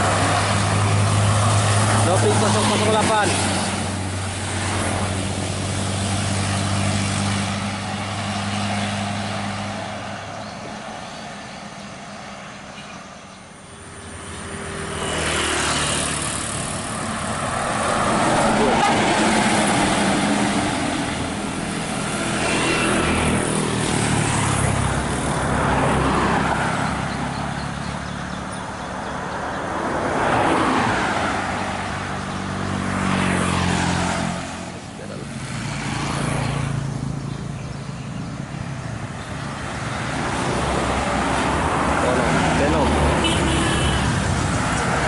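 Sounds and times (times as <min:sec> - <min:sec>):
steady engine hum: 0:00.0 - 0:45.0
vehicles passing by: 0:00.0 - 0:45.0.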